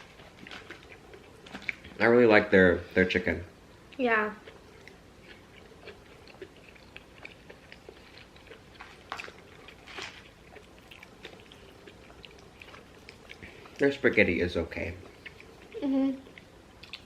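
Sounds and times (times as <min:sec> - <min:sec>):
chewing food: 0:00.0 - 0:02.2, 0:03.8 - 0:17.0.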